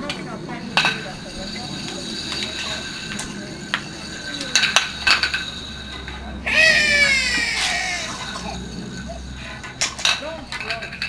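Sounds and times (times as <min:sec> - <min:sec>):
discs sliding on concrete: 0:00.0 - 0:11.0
faint voices: 0:00.0 - 0:11.0.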